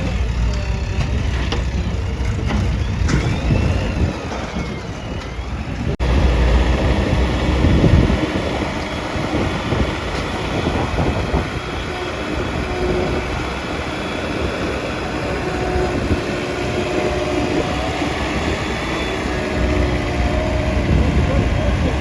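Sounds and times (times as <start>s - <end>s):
diesel earthmoving machinery running: 0.0s - 22.0s.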